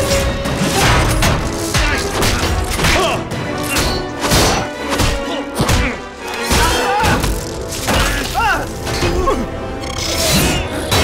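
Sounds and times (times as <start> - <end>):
orchestral film score: 0.0 - 11.0.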